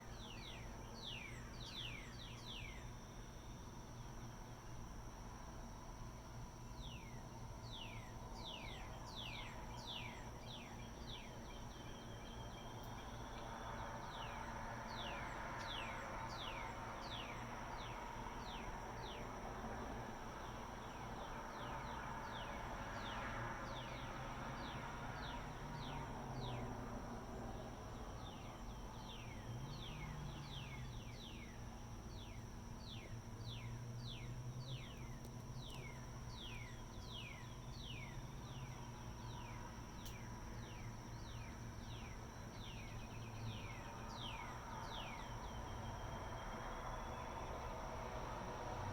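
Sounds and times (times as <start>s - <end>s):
distant machinery hum: 0.0s - 48.9s
high insect drone: 0.0s - 48.9s.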